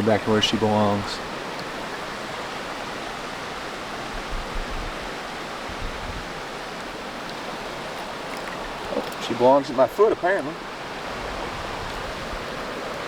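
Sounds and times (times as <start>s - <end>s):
waterfall and stream rushing: 0.0s - 13.0s.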